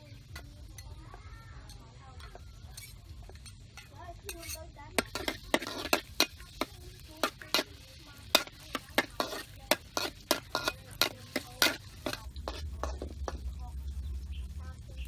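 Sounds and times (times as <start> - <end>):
light sizzle of frying: 0.0 - 15.0
ladle scraping and clinking in wok: 0.2 - 13.5.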